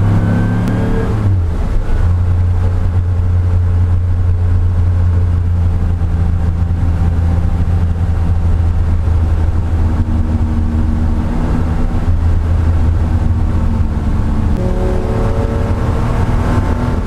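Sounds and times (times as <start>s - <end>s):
race car engine drone from cabin: 0.0s - 17.0s.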